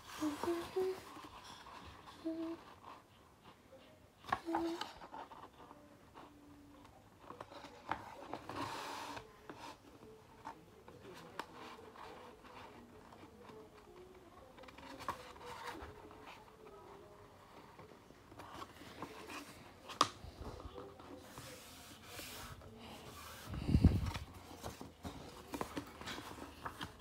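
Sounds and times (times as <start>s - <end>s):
paper rustling and folding: 0.0s - 27.0s.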